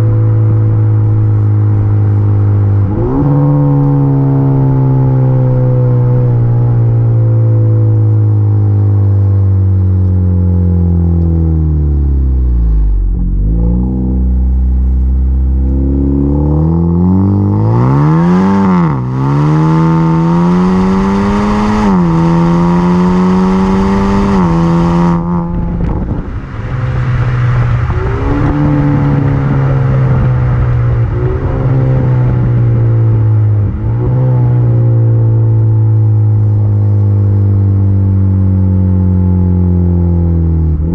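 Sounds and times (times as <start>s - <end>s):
car engine exhaust note: 0.0s - 40.9s.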